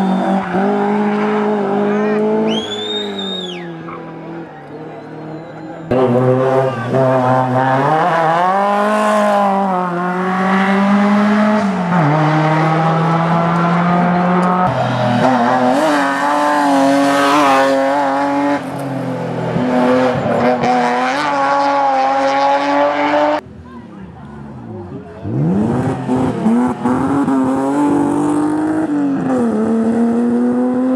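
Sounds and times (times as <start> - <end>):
rally car engine at high revs: 0.0 - 23.4, 25.0 - 30.9.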